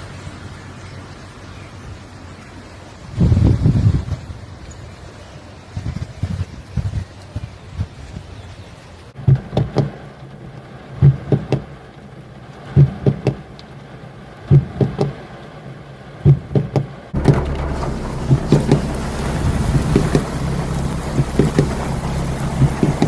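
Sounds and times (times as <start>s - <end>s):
storm wind and rain: 0.0s - 23.0s.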